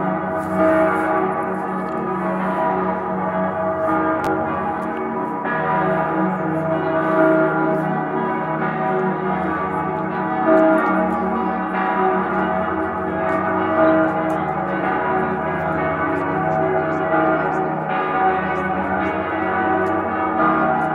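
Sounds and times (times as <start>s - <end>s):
large church bells ringing: 0.0s - 20.9s.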